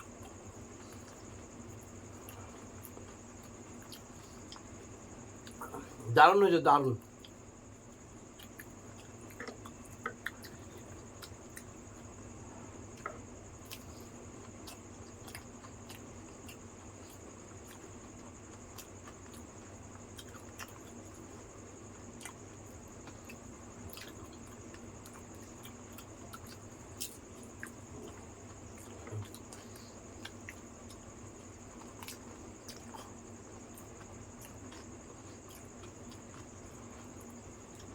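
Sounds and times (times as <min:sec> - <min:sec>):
chewing and squelching: 0:00.0 - 0:06.0, 0:07.1 - 0:37.9
background hum: 0:00.0 - 0:37.9.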